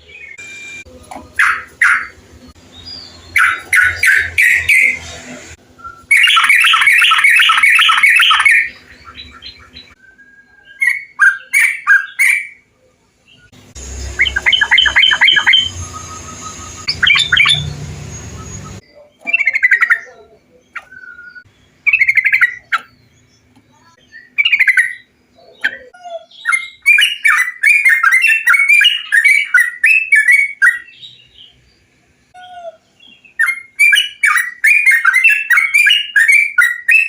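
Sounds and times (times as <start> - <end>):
bulbuls chattering song: 1.2 - 10.0, 10.7 - 37.0.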